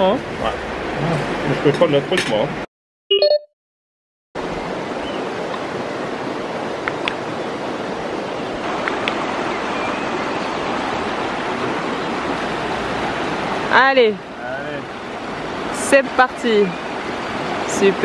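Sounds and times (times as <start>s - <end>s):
running water rushing: 0.0s - 2.7s, 4.4s - 18.0s.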